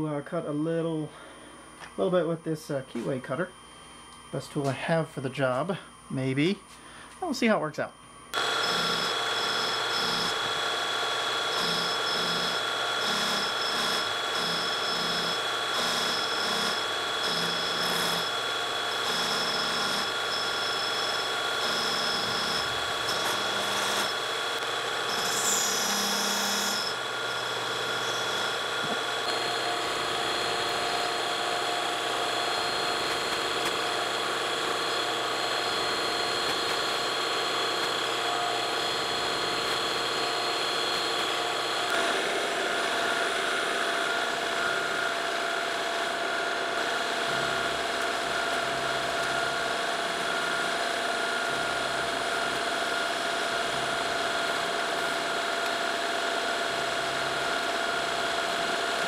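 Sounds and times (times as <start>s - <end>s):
milling machine whine: 0.0s - 59.0s.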